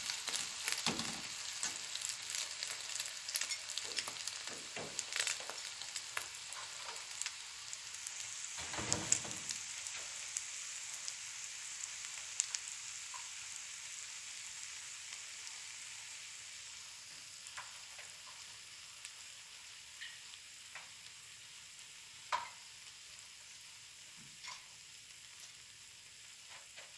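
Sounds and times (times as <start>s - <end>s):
eggs sizzling in a pan: 0.0s - 26.9s.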